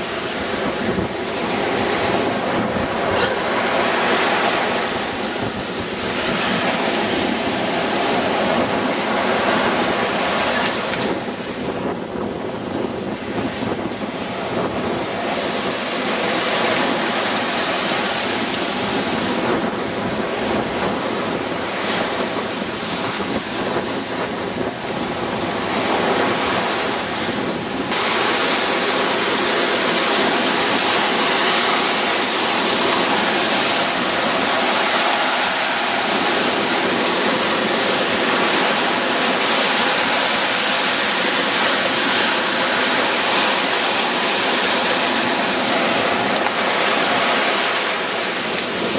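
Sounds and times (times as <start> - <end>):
surf breaking on sandy beach: 0.0 - 48.9
wind buffeting microphone: 0.0 - 48.9.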